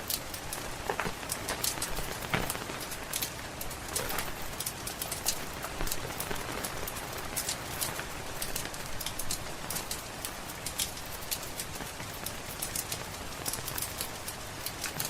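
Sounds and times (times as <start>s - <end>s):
steady rain patter: 0.0s - 15.0s
wood fire crackling: 0.0s - 15.0s.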